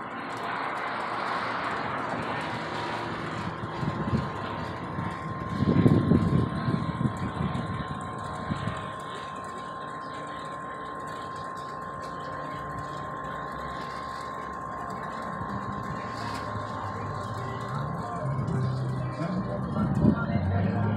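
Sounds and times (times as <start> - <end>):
propeller airplane droning: 0.0 - 20.9.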